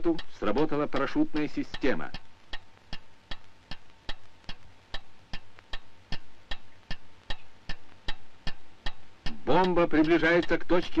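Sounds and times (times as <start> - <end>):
clockwork timer ticking: 0.0 - 11.0.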